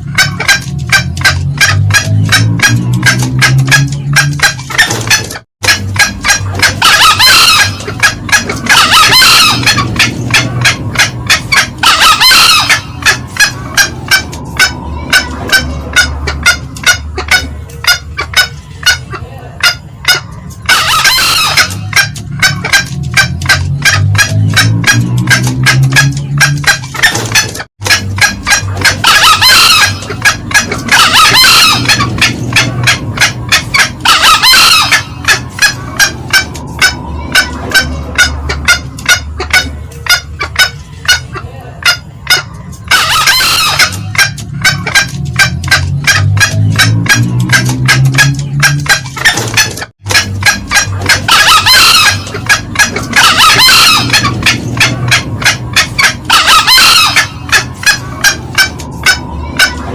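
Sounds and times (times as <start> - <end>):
hen cackling: 0.0 - 59.9
junglefowl clucking: 0.0 - 59.9.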